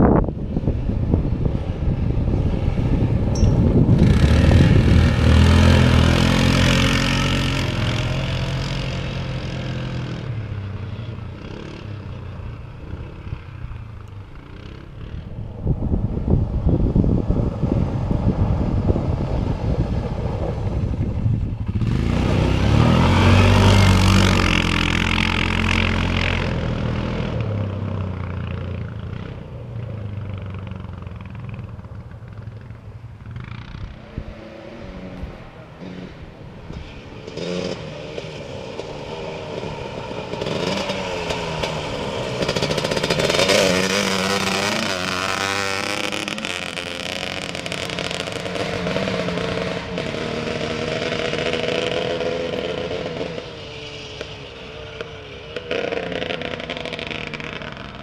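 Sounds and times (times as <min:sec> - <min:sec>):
atv engines revving past: 0:00.0 - 0:58.0.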